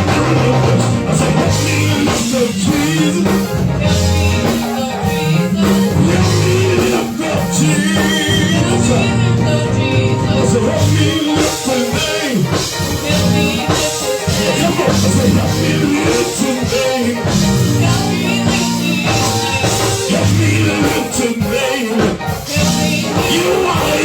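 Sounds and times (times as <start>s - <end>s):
drum kit beat: 0.0s - 24.0s
live band playing upbeat music: 0.0s - 24.0s.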